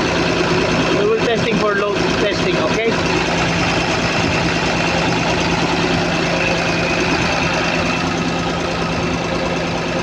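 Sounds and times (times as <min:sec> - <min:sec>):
diesel excavator engine running: 0:00.0 - 0:10.0.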